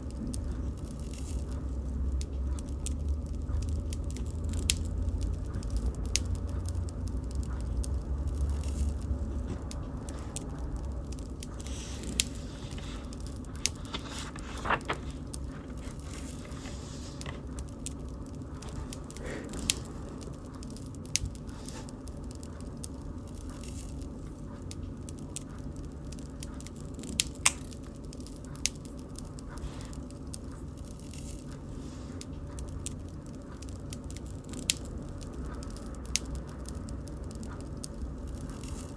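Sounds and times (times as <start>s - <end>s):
fire crackles and pops: 0.0s - 38.9s
low rumble of flames: 0.0s - 38.9s.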